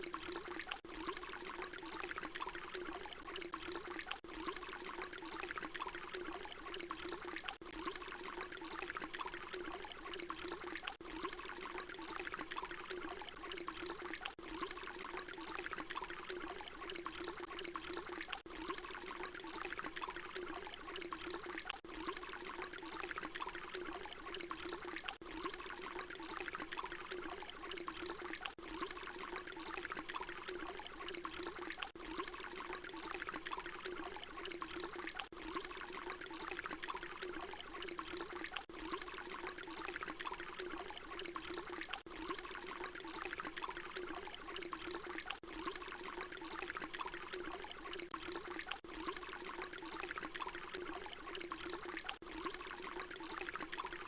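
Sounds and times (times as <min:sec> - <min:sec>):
water trickling stream: 0:00.0 - 0:54.0.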